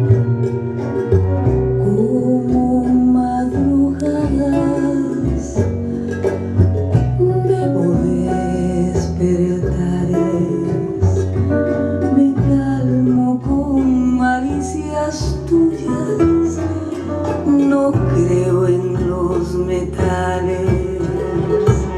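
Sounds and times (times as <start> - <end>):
guitar: 0.0 - 21.9
steady bass line: 0.0 - 21.9
person singing: 1.7 - 21.9.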